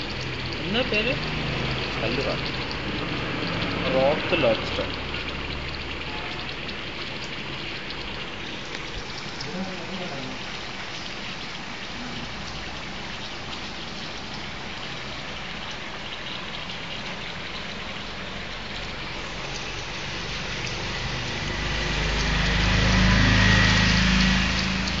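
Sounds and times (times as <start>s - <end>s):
water pattering and trickling: 0.0s - 25.0s.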